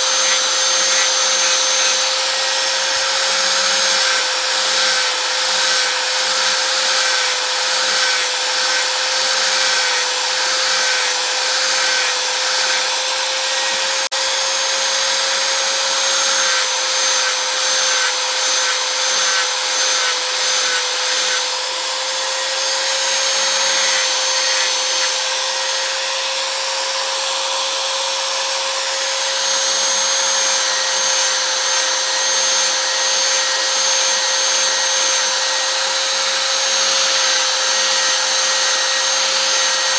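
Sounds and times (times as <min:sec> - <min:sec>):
sanding disc whining: 0:00.0 - 0:39.9.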